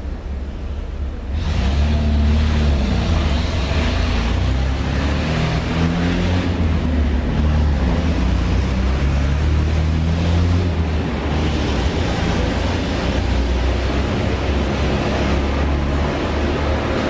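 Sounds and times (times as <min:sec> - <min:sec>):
city traffic rumble: 0:00.0 - 0:17.0
engine hum: 0:00.0 - 0:17.0.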